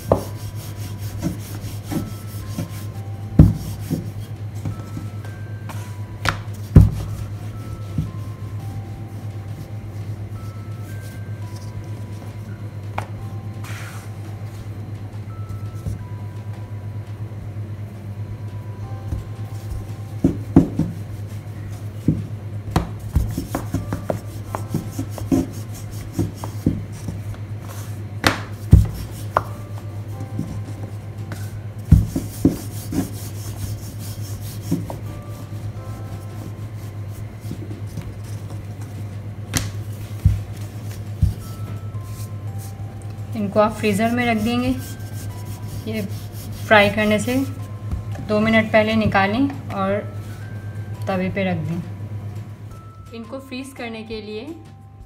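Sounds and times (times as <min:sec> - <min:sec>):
rolling pin rolling dough: 0:00.0 - 0:16.7, 0:18.0 - 0:50.9
steady low hum: 0:00.0 - 0:55.0.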